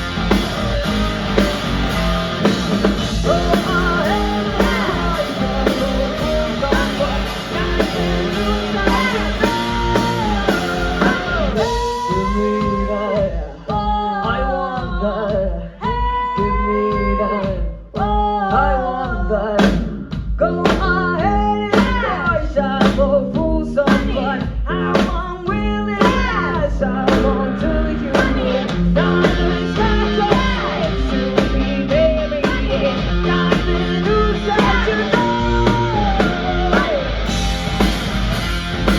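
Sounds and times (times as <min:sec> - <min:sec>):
rock band playing live: 0:00.0 - 0:14.0, 0:19.6 - 0:38.9
woman singing lead vocal: 0:00.0 - 0:37.5.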